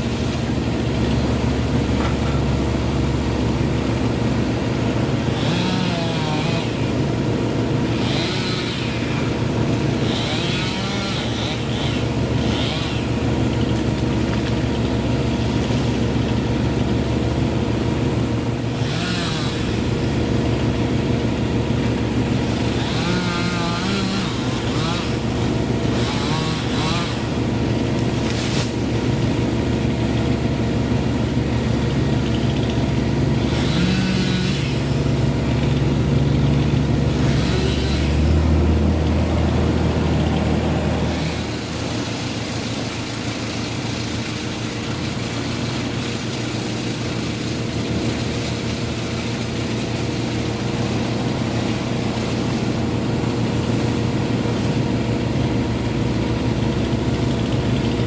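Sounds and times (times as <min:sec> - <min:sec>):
large engine running: 0:00.0 - 0:58.0.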